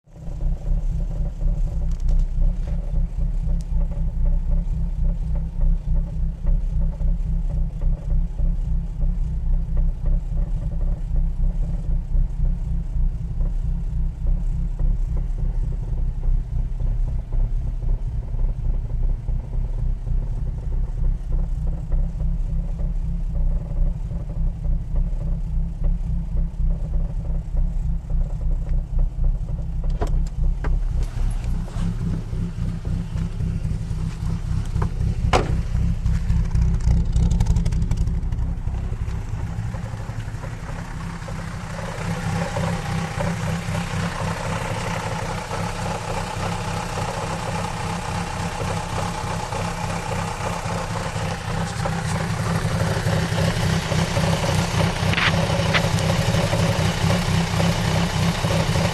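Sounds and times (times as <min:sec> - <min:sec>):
car engine idling with knock: 0:00.0 - 0:58.9.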